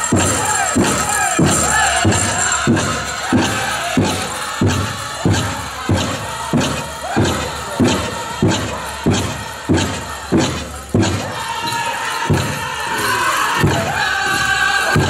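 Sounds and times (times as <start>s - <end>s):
bass drum beating: 0.0s - 11.5s, 12.2s - 12.8s, 13.6s - 15.0s
high group singing: 0.0s - 15.0s.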